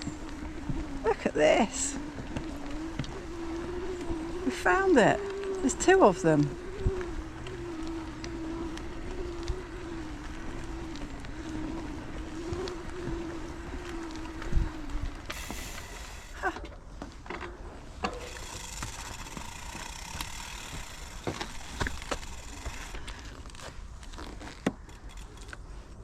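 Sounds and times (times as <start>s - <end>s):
bicycle freewheel ticking: 0.0s - 16.6s, 18.1s - 23.6s, 24.8s - 25.6s.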